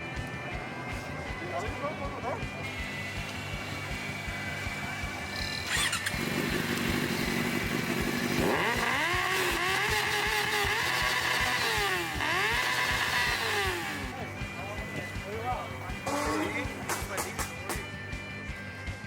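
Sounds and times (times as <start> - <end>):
motorcycle engine revving: 0.2 - 17.9.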